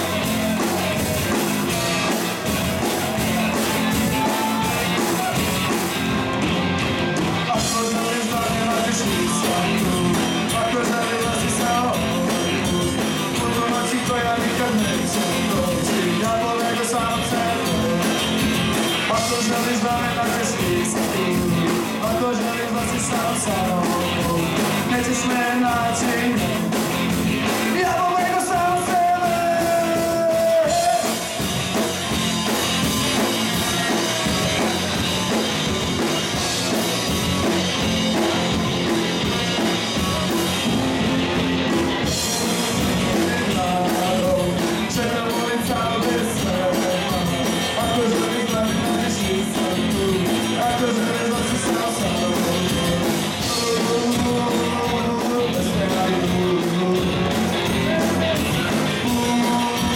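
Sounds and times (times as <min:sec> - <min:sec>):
person singing: 0:00.0 - 0:06.4, 0:07.3 - 0:40.8, 0:41.8 - 0:59.9
live rock band playing: 0:00.0 - 0:59.9.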